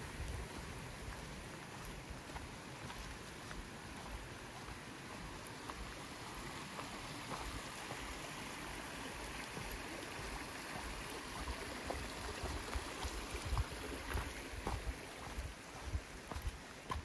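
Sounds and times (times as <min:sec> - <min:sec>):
footsteps on fallen leaves: 0:00.0 - 0:08.1, 0:09.6 - 0:17.0
creek running: 0:00.0 - 0:17.0.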